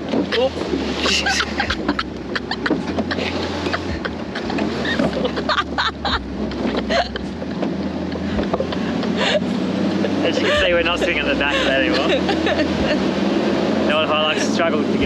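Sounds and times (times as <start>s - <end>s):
truck bed rattling and knocking: 0.0s - 13.0s
truck engine running: 0.0s - 15.0s
people laughing: 0.9s - 7.4s, 8.0s - 13.2s, 13.9s - 14.9s.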